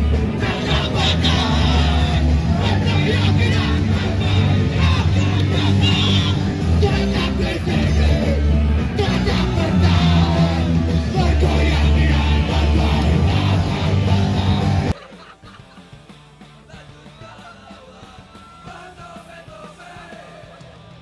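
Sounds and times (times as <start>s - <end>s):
punk rock band playing: 0.0s - 21.0s
yelled vocals: 0.0s - 21.0s.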